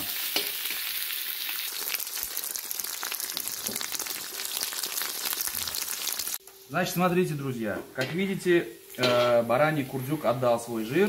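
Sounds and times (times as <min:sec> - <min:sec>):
fat sizzling in a hot pot: 0:00.0 - 0:07.6, 0:08.2 - 0:11.0.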